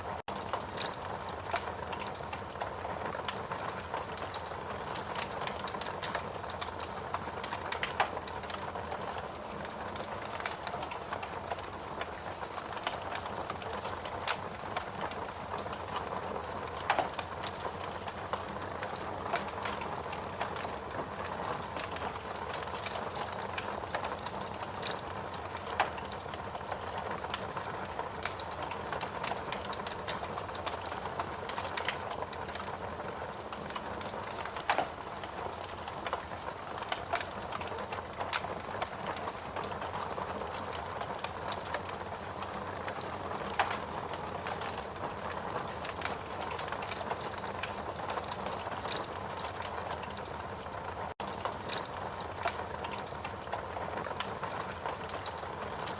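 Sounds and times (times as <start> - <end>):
log fire crackling and popping: 0.0 - 55.9
fire snaps: 0.2 - 55.9.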